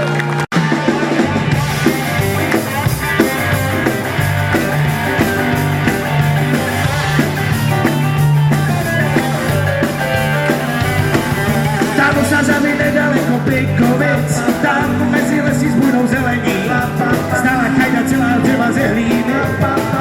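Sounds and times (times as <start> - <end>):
drum kit and bass: 0.0 - 20.0
rock and roll band playing: 0.0 - 20.0.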